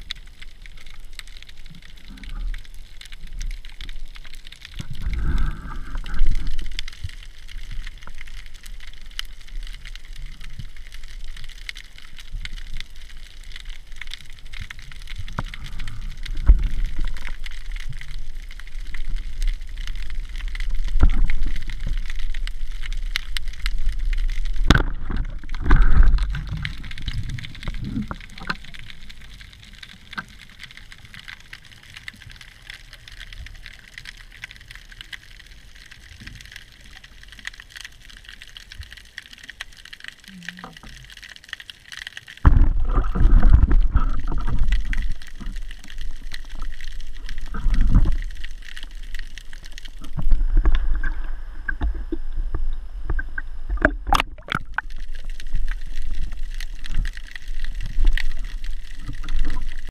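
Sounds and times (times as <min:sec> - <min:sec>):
low rumble of water: 0:00.0 - 0:59.9
underwater crackling: 0:00.0 - 0:59.9.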